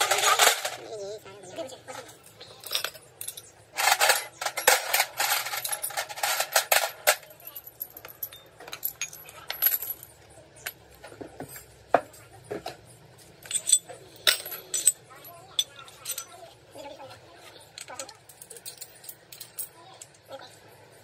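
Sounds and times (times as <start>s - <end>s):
metal tools clinking: 0.0s - 20.3s.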